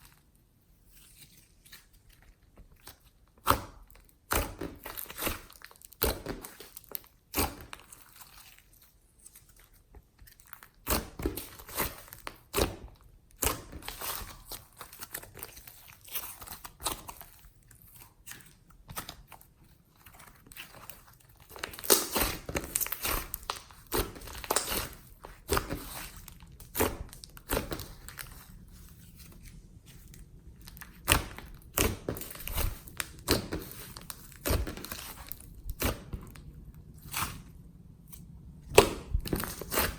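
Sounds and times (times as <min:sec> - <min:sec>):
slime being kneaded by hand: 0:00.0 - 0:39.9.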